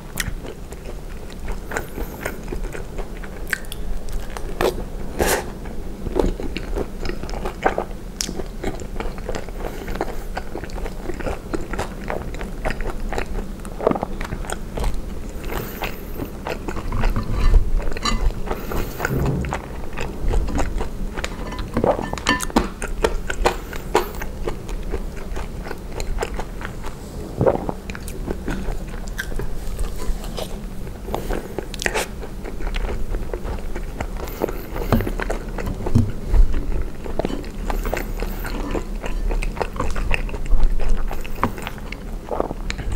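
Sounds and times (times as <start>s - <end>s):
close chewing and biting: 0.0s - 42.9s.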